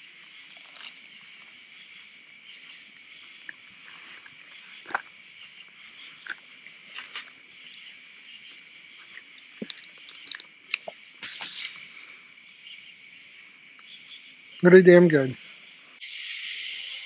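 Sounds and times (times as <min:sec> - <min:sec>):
night insects chirping: 0:00.0 - 0:17.0.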